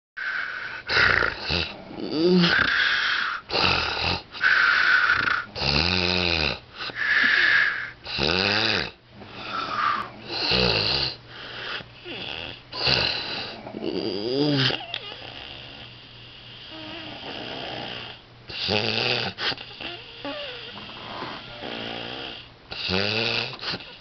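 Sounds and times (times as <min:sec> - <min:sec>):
man snoring loudly: 0:00.2 - 0:11.2, 0:12.0 - 0:15.8, 0:16.7 - 0:23.7.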